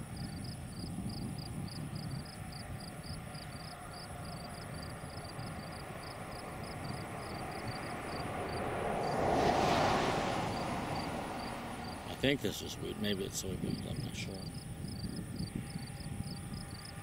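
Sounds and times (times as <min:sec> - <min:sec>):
low machinery rumble: 0:00.0 - 0:17.0.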